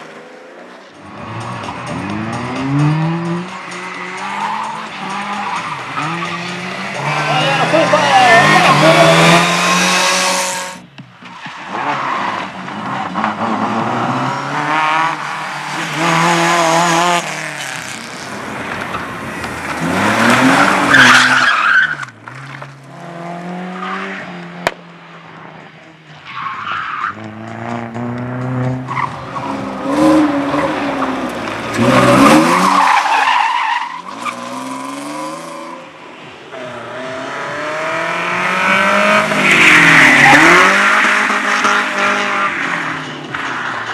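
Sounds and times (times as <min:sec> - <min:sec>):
tyres squealing and skidding: 0:00.7 - 0:22.9, 0:26.0 - 0:27.6, 0:28.7 - 0:37.0, 0:37.6 - 0:43.9
car engine revving: 0:01.0 - 0:10.9, 0:11.6 - 0:25.6, 0:27.0 - 0:43.7.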